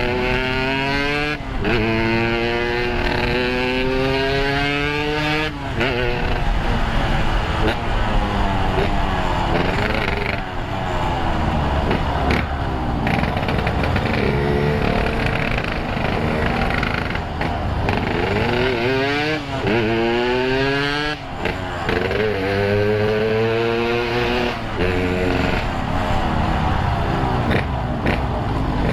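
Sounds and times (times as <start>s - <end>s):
two-stroke motorcycle engine revving: 0.0s - 28.9s.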